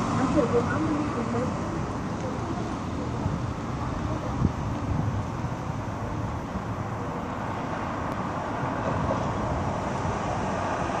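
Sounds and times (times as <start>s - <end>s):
road traffic rumble: 0.0s - 11.0s
vehicle approaching: 0.0s - 11.0s.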